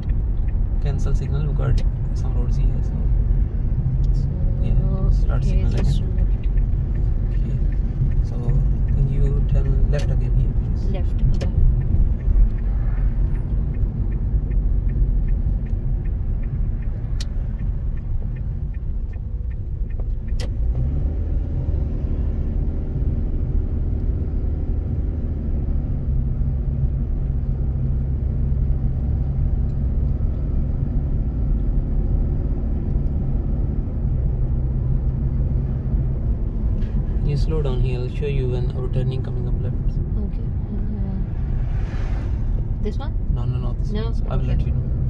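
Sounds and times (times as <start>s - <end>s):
turn indicator ticking: 0.0s - 41.9s, 42.5s - 45.0s
car engine and road noise: 0.0s - 45.0s.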